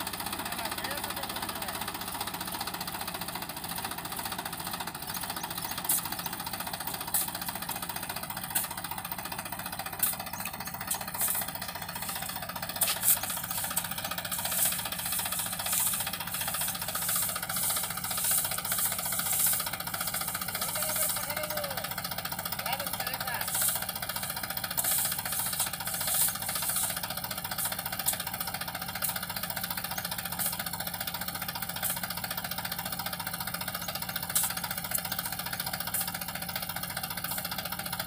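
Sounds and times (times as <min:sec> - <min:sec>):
diesel tractor engine knocking: 0:00.0 - 0:38.0.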